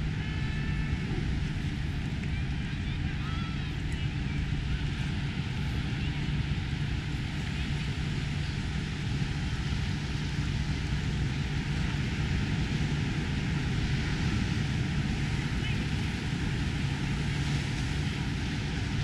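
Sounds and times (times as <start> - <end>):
ocean surf washing in: 0.0 - 19.0
wind on microphone: 0.0 - 19.0.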